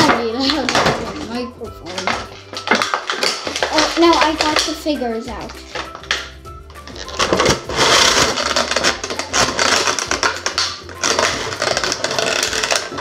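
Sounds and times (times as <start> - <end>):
plastic bag crinkling: 0.5 - 4.8, 5.5 - 13.0.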